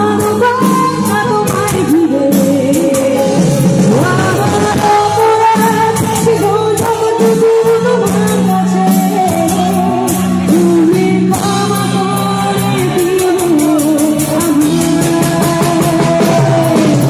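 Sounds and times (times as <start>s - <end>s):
live band playing: 0.0s - 17.0s
person singing: 0.0s - 17.0s
steady drum beat: 0.0s - 17.0s.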